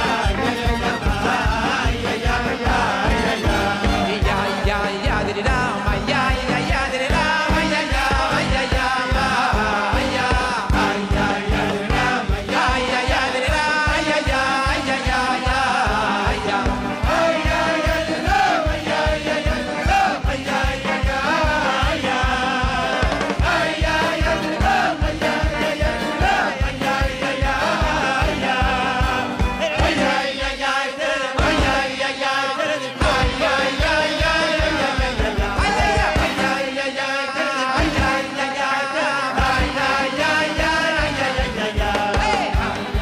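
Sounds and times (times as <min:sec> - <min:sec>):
fast drum beat: 0:00.0 - 0:30.7, 0:31.4 - 0:32.1, 0:33.0 - 0:36.6, 0:37.8 - 0:38.3, 0:39.4 - 0:43.0
band playing pop song: 0:00.0 - 0:43.0
man singing: 0:00.0 - 0:43.0.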